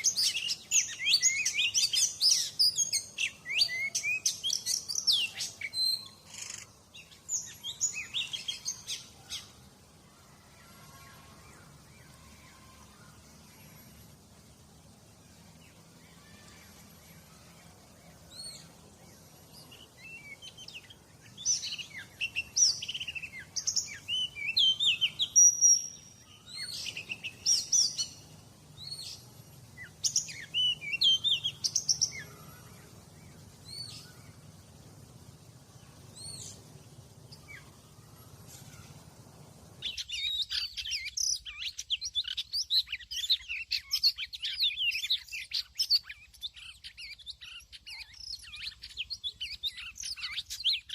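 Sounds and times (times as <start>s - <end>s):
bird singing whistles and chirps: 0.0s - 14.2s, 15.5s - 34.6s, 35.6s - 50.9s.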